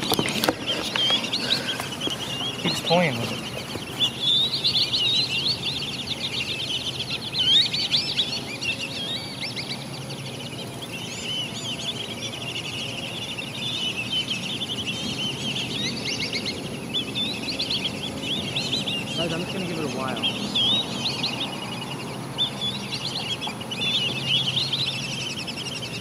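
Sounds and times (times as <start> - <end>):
birds chirping and whistling: 0.0 - 26.0.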